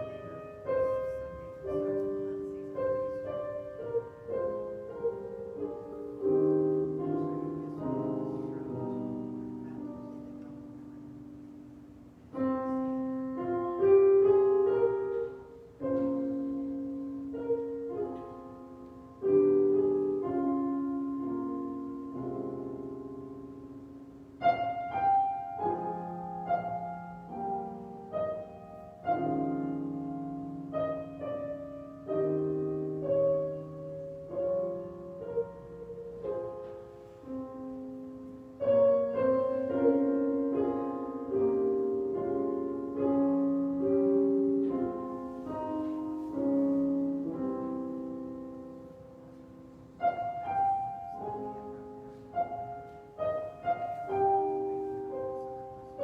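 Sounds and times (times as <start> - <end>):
solo piano piece: 0.0 - 56.0.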